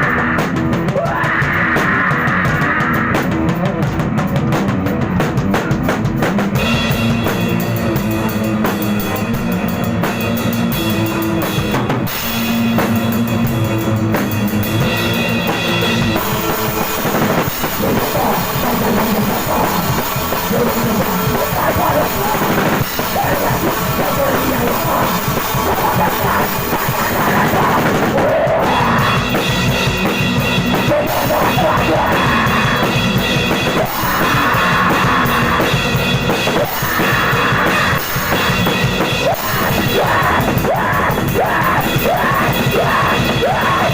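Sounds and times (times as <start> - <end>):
loud hardcore punk band: 0.0 - 43.9
pounding drum kit: 0.0 - 43.9.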